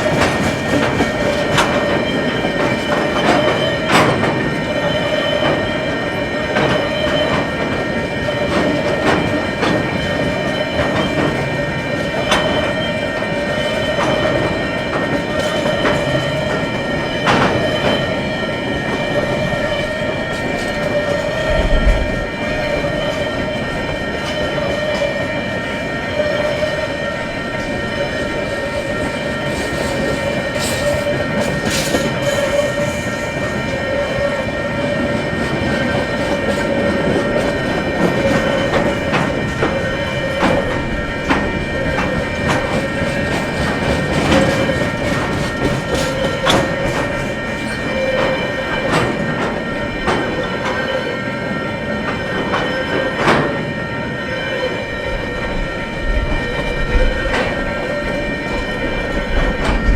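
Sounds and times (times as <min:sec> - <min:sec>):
freight train wagons rolling past: 0:00.0 - 0:59.9.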